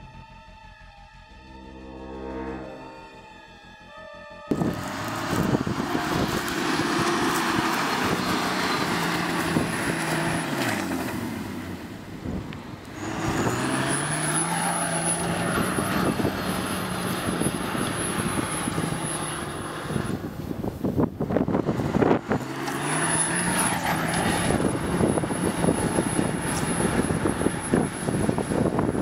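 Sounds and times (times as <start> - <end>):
suv engine revving under load: 4.5 - 29.0.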